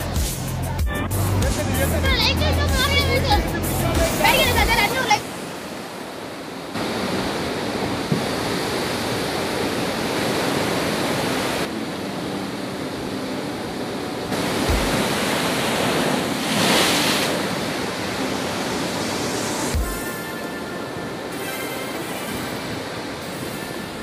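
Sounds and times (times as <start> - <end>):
waves breaking against a pier: 2.0 - 24.0.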